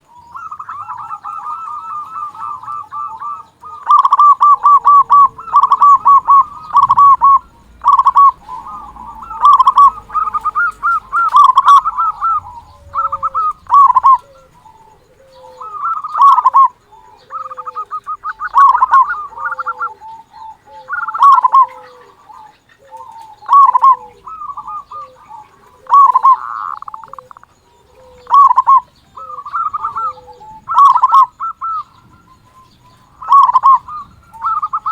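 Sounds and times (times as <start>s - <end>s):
dove cooing: 0.0s - 34.9s.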